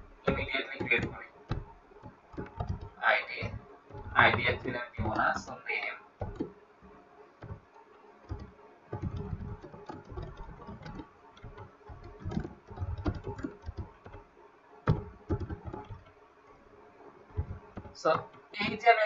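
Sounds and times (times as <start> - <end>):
typing on computer keyboard: 0.0 - 5.6, 6.2 - 14.3, 14.9 - 16.2, 17.3 - 18.8.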